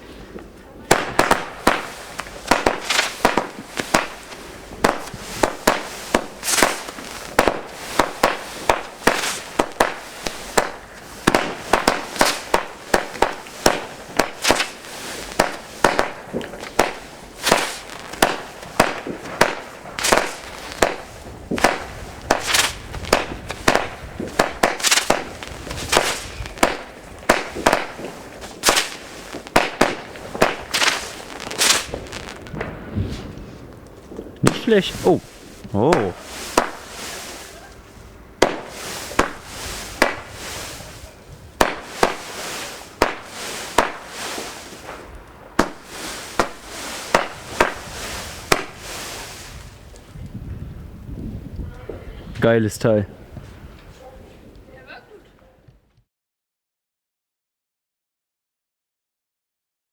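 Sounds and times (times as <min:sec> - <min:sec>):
firework bangs: 0:00.8 - 0:50.0.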